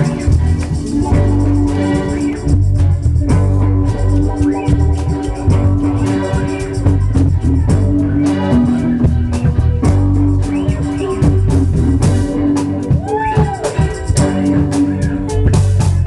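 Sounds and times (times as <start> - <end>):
reggae band playing: 0.0 - 16.0.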